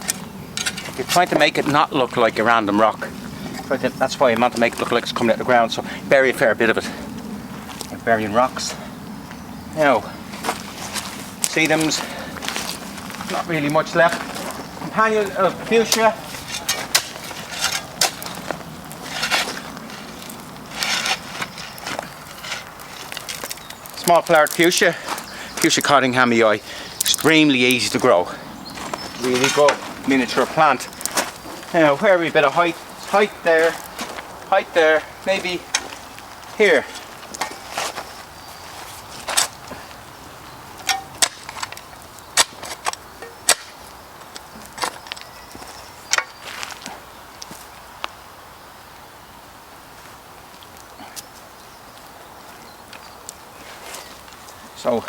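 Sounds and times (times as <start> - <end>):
gravelly soil crunching: 0.0 - 48.2, 49.7 - 55.0.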